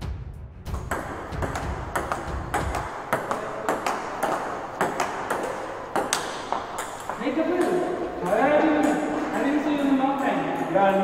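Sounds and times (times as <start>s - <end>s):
ball bouncing on table: 0.7s - 11.0s
ping pong ball on paddles: 0.7s - 11.0s.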